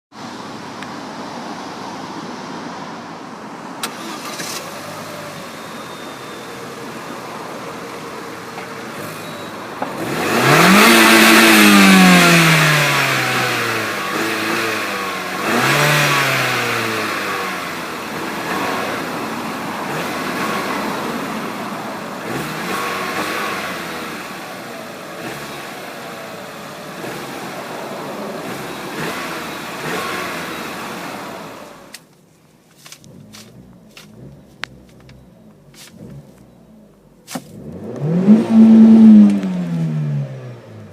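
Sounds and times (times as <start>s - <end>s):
car engine starting and revving: 3.8s - 32.1s, 32.8s - 40.9s
engine idling with throttle blips: 3.8s - 39.8s.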